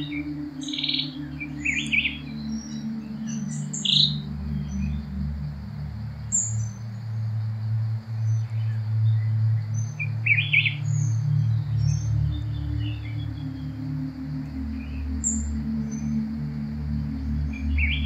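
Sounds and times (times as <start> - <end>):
birds chirping and trilling: 0.0 - 18.0
low sustained tonal drone: 0.0 - 18.0.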